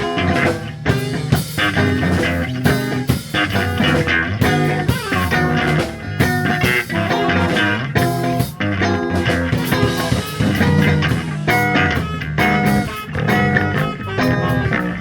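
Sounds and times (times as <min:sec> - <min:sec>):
bass guitar: 0:00.0 - 0:15.0
drums: 0:00.0 - 0:15.0
electric guitar: 0:00.0 - 0:15.0
horn lines: 0:00.0 - 0:15.0.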